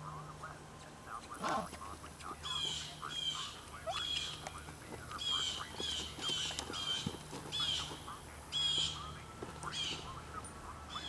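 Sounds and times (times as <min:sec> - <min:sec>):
bird calling: 0:01.3 - 0:11.0.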